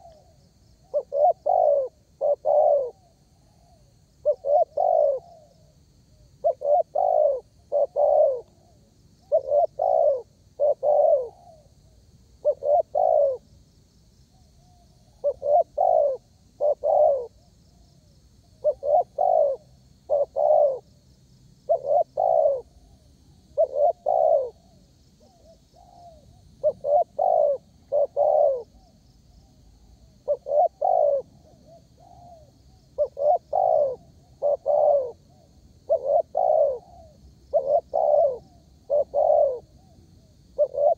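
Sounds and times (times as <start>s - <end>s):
dove cooing: 0.0s - 13.5s, 14.6s - 17.8s, 18.5s - 20.9s, 21.7s - 40.9s
faint high-pitched chirring: 0.0s - 40.9s.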